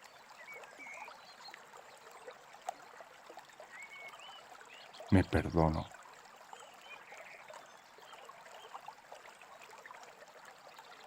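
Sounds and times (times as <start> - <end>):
faint babbling brook: 0.0 - 11.0.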